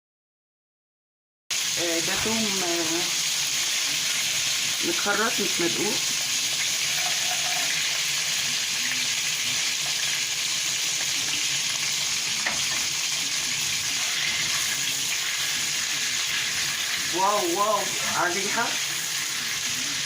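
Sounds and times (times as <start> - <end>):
garlic sizzling in oil: 1.5 - 20.0.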